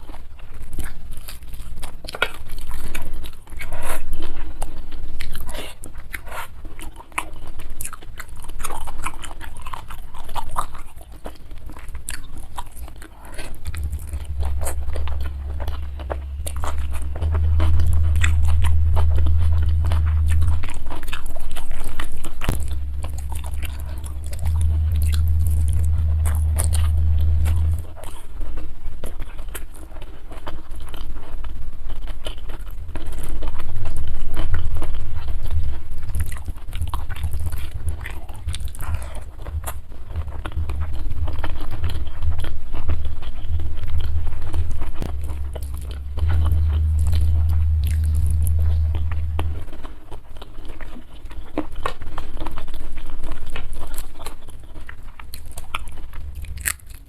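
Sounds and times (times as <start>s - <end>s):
chewing crunchy food: 0.0s - 57.0s
steady low rumble: 8.4s - 57.0s.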